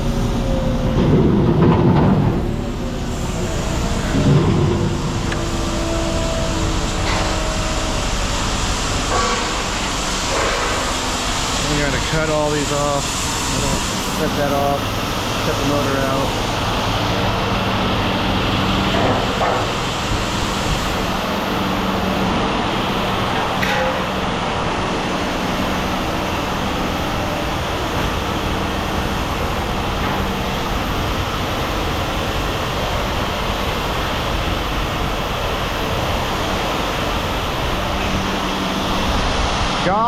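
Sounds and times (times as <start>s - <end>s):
engine running with low hum: 0.0s - 40.0s.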